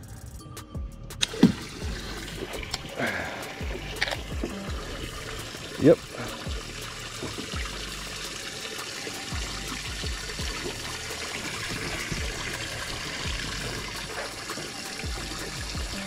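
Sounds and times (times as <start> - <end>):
water trickling and splashing: 1.2 - 16.0.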